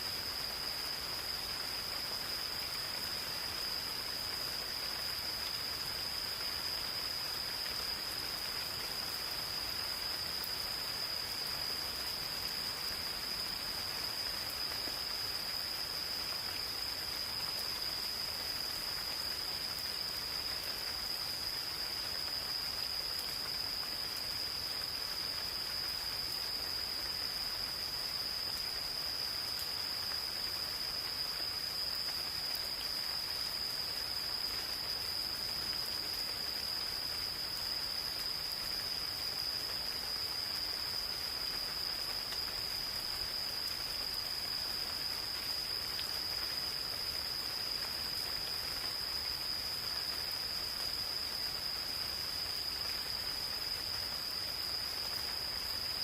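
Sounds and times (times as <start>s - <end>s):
gentle rain in forest: 0.0s - 56.0s.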